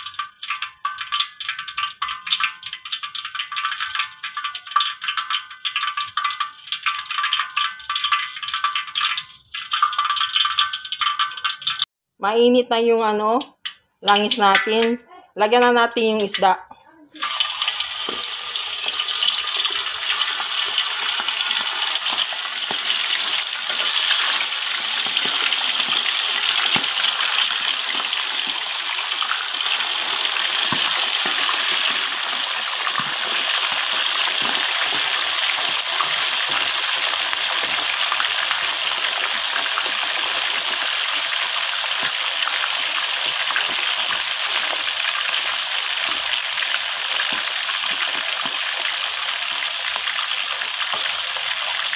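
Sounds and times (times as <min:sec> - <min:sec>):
fish deep-frying in oil: 0:00.0 - 0:51.9.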